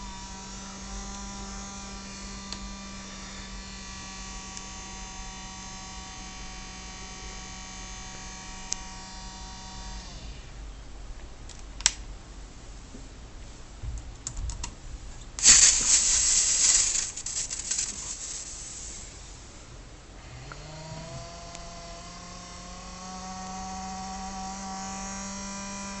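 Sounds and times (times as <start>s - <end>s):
loud hiss of noise: 0.0s - 10.6s, 15.3s - 26.0s
cooling fan whine: 0.0s - 26.0s.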